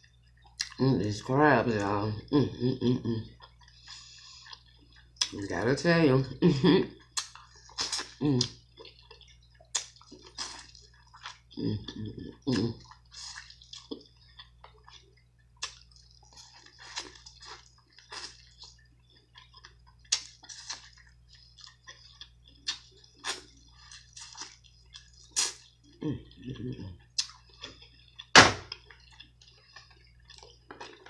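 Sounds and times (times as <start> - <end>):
wet chewing and smacking: 0.0 - 0.8, 3.2 - 5.6, 6.9 - 31.0.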